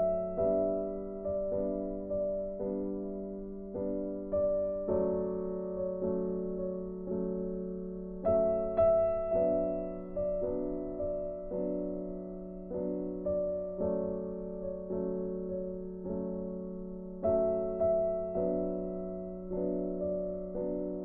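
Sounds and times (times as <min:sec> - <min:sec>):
slow solo piano piece: 0:00.0 - 0:21.0.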